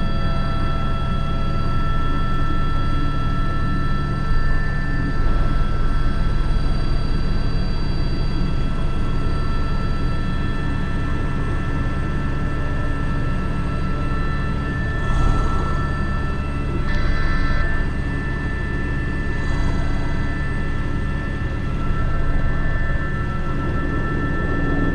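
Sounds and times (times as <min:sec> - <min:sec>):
helicopter rotor drone: 0:00.0 - 0:24.9
helicopter turbine whine: 0:00.0 - 0:24.9.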